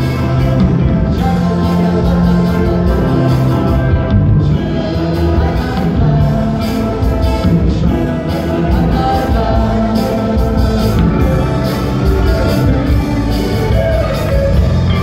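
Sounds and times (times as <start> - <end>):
man singing into microphone: 0.0 - 14.2
drum kit beat: 0.0 - 15.0
electric guitar: 0.0 - 15.0.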